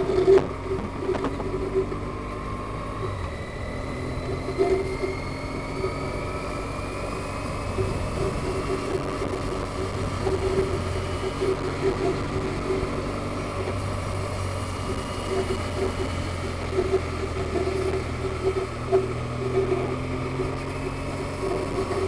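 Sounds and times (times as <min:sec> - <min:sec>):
thin rising whine: 0:00.0 - 0:22.0
vehicle engine and road rumble: 0:00.0 - 0:22.0.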